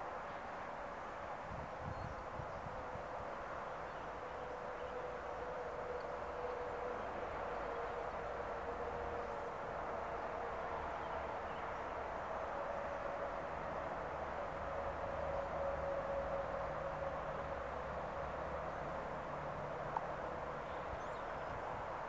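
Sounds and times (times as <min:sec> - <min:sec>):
distant road traffic: 0:02.3 - 0:22.0.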